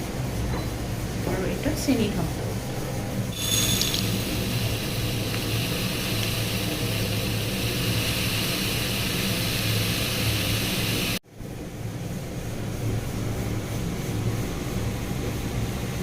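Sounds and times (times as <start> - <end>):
fan-like mechanical drone: 0.0 - 16.0.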